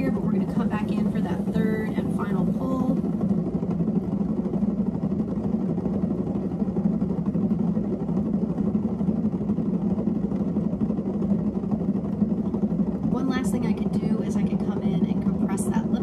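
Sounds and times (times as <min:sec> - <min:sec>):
pottery wheel motor humming: 0:00.0 - 0:16.0.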